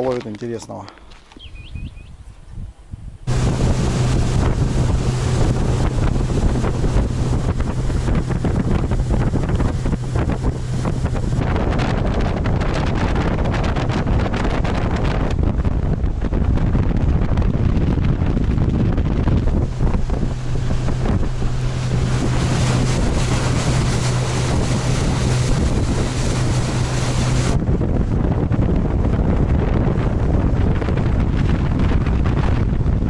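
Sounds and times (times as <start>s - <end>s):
wind buffeting microphone: 1.4s - 33.0s
motorboat engine hum: 3.2s - 33.0s.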